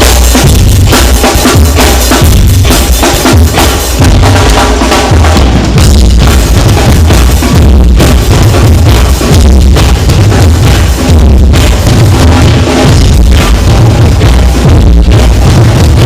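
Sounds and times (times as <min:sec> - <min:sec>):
loud music with drum kit: 0:00.0 - 0:16.0.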